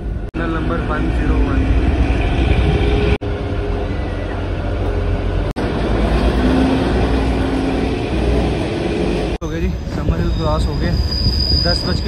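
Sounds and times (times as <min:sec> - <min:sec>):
train wheels and engine rumbling: 0:00.0 - 0:12.0.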